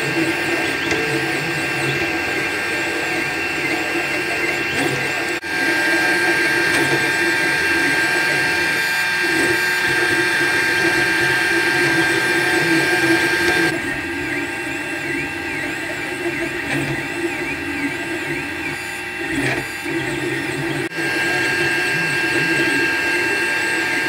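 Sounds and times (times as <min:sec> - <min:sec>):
three-d printer stepper motors whining: 0:00.0 - 0:24.0.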